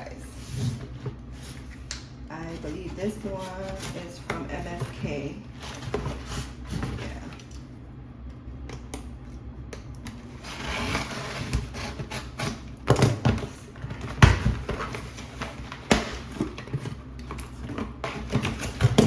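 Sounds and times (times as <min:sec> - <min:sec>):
cardboard rustling and scraping: 0:00.2 - 0:07.4, 0:10.2 - 0:19.0.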